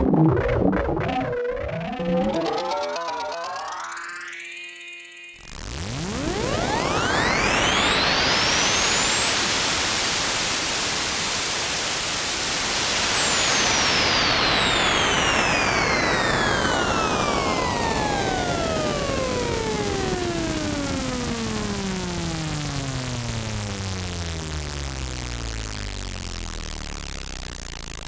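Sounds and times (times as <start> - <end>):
synthesizer noise hiss: 0.1 - 28.0.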